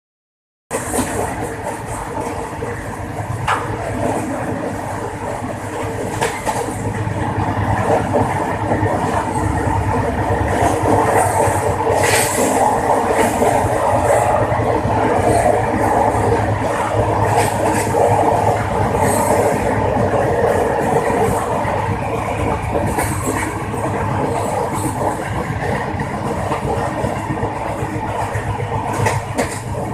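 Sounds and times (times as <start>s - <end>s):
train wheels clattering on track: 0.7s - 29.9s.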